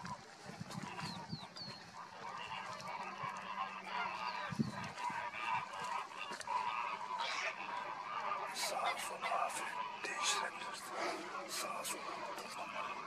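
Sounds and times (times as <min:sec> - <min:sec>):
flamingos honking and gabbling: 0:00.0 - 0:13.0.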